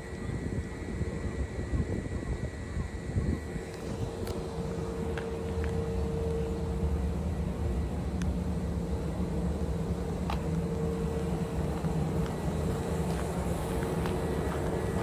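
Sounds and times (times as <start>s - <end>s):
electric train equipment hum: 0.0s - 15.0s.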